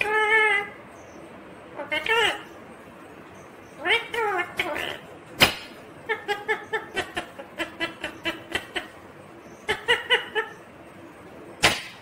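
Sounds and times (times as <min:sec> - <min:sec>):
parakeet chattering: 0:00.0 - 0:10.9.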